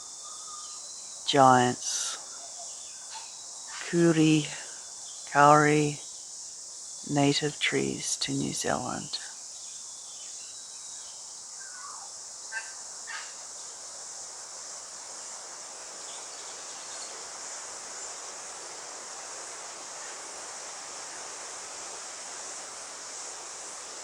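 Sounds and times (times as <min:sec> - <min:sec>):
wind through tree canopy: 0:00.0 - 0:24.0.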